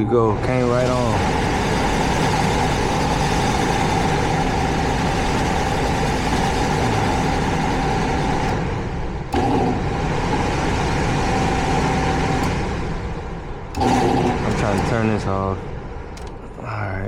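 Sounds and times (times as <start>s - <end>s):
hvac system hum: 0.0s - 17.0s
mid-pitched whine: 0.0s - 17.0s.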